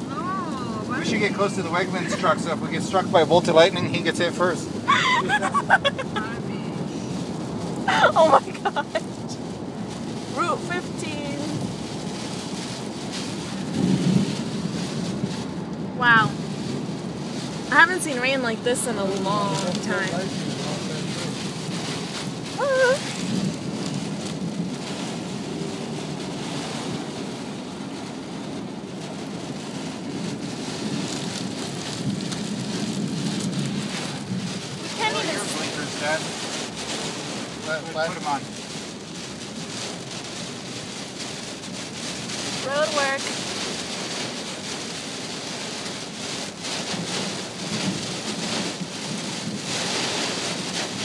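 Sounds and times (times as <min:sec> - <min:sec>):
car road noise: 0:00.0 - 0:51.0
heavy rain on a car: 0:00.0 - 0:51.0.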